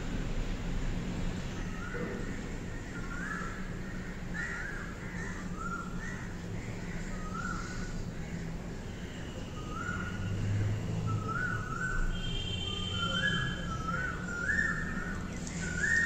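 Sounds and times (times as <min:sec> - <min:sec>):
birds calling: 0:01.2 - 0:16.0.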